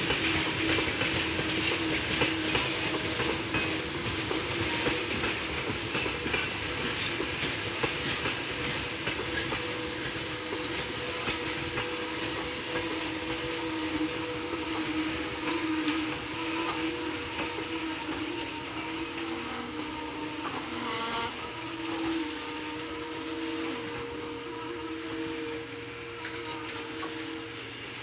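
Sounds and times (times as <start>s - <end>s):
train brakes squealing: 0.0s - 28.0s
train wheels clicking over rails: 0.0s - 28.0s.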